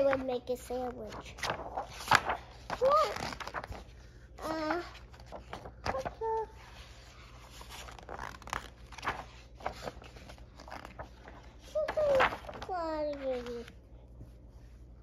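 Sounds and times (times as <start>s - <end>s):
book pages turning: 0.0s - 15.0s.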